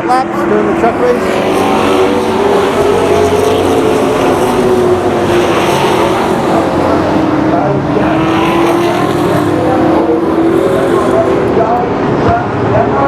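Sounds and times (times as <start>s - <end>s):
race truck engines droning: 0.0s - 13.0s.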